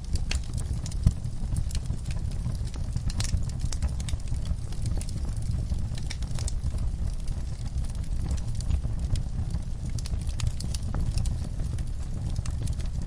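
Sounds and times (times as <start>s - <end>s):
low fire rumble: 0.0s - 13.0s
wood fire crackling: 0.0s - 13.0s.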